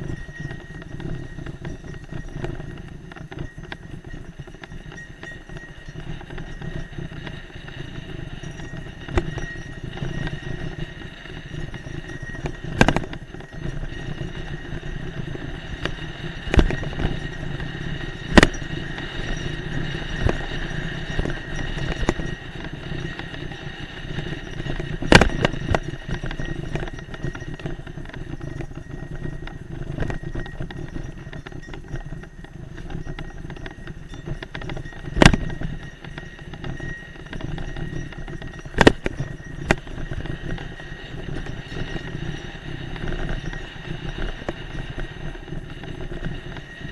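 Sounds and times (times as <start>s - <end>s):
bike rattling: 0.0s - 46.9s.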